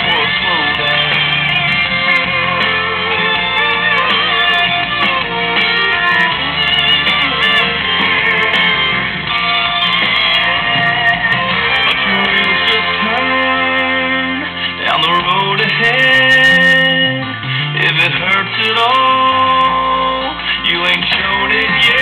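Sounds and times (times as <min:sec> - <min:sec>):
guitar music with singing on radio: 0:00.0 - 0:22.0.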